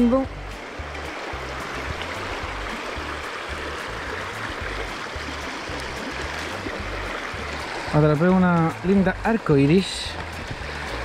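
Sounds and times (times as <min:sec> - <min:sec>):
music with repeating bass notes: 0:00.0 - 0:11.0
river rushing over rocks: 0:00.5 - 0:11.0.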